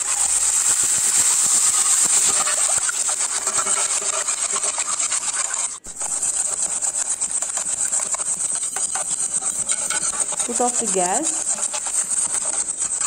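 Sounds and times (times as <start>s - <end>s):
spoon scraping a steel pan: 0.9s - 13.0s.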